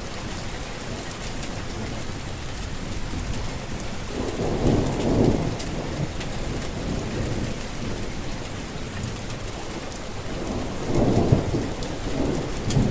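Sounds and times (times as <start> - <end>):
steady rain falling: 0.0 - 12.9
thunder rumbles: 0.0 - 12.9.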